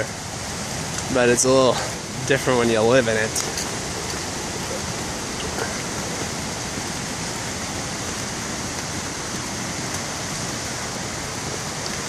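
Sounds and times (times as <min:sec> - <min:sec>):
heavy rain: 0:00.0 - 0:12.0
running rainwater: 0:00.0 - 0:12.0.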